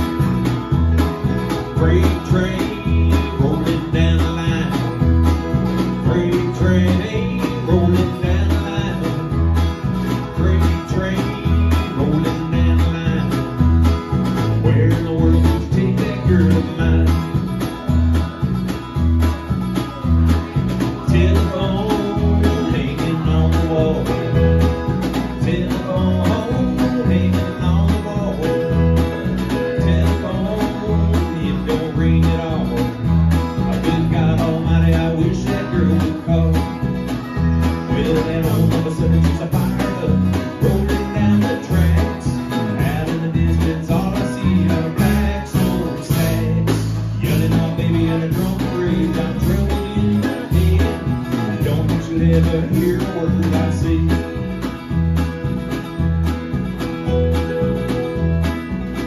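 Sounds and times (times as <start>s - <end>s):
drum kit beat: 0.0s - 59.0s
electric bass: 0.0s - 59.0s
keyboard: 0.0s - 59.0s
strummed acoustic guitar: 0.0s - 59.0s.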